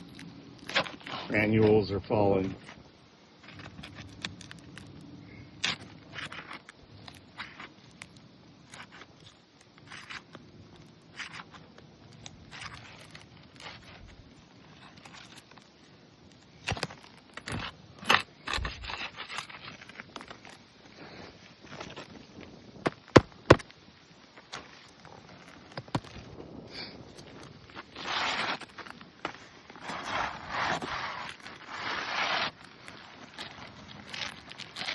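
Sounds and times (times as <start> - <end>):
roof shingles scraping and crackling: 0.0 - 34.9.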